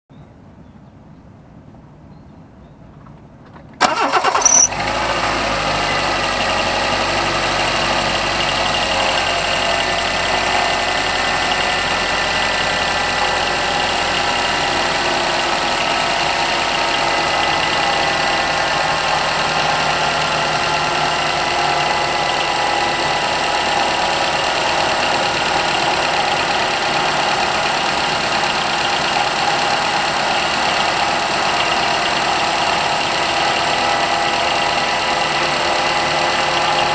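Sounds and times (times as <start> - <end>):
car engine starting and idling: 3.4 - 36.9.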